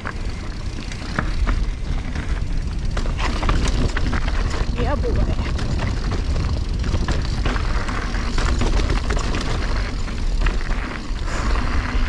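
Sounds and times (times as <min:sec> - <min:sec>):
bike tyres and frame clattering: 0:00.0 - 0:12.0
wind rumbling on microphone: 0:00.0 - 0:12.0.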